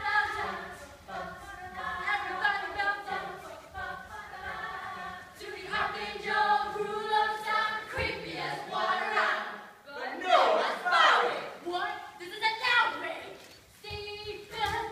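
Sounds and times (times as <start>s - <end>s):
group singing unaccompanied: 0.0s - 11.6s, 13.8s - 14.9s.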